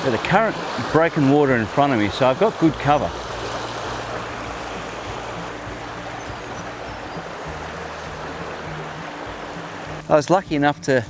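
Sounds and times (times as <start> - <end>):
mountain stream running: 0.0 - 10.4.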